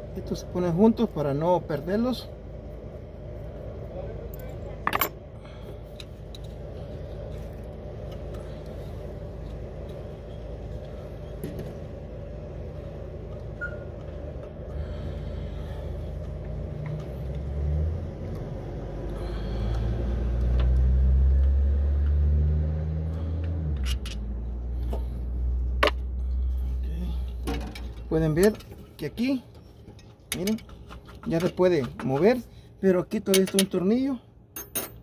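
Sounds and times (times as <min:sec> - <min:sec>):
vehicle engine rumble: 0:00.0 - 0:34.2.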